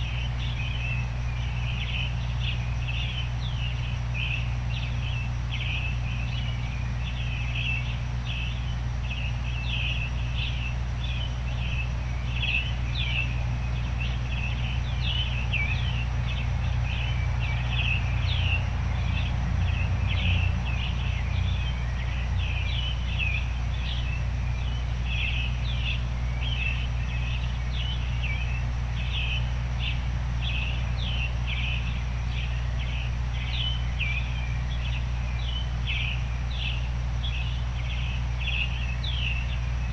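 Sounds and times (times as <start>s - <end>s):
songbirds chirping: 0.0s - 39.9s
steady low noise: 0.0s - 39.9s.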